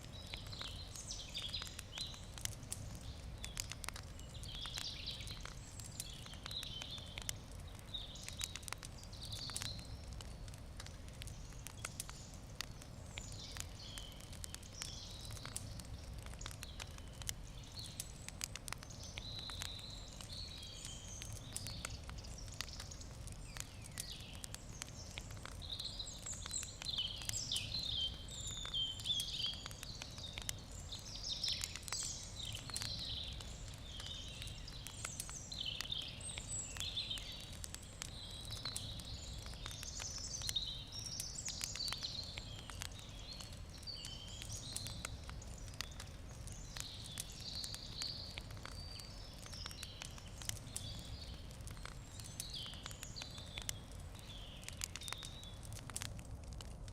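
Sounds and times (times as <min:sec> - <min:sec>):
birds singing: 0:00.0 - 0:10.2, 0:10.9 - 0:55.7
campfire crackling and popping: 0:00.0 - 0:56.9.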